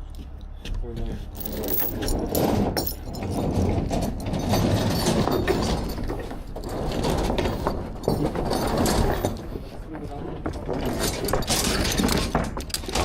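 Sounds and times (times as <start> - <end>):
metal hardware clicking and rattling: 1.3 - 9.8, 10.4 - 13.0.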